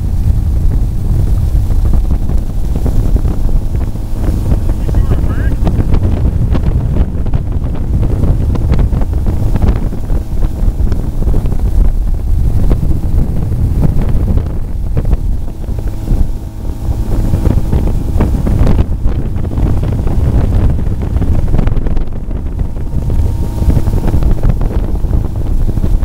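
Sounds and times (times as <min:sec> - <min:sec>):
boat engine drone: 0:00.0 - 0:26.0
wind buffeting microphone: 0:00.0 - 0:26.0.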